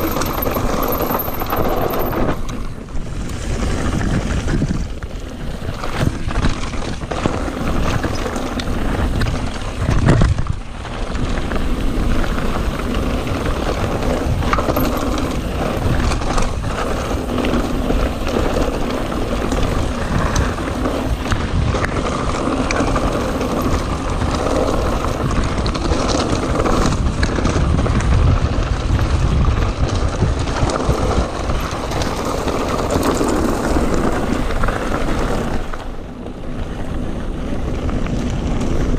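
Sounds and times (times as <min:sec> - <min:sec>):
bike rattling over stones: 0:00.0 - 0:38.9
bike tyres rumbling on gravel: 0:00.0 - 0:38.9
wind rushing over microphone: 0:00.0 - 0:38.9.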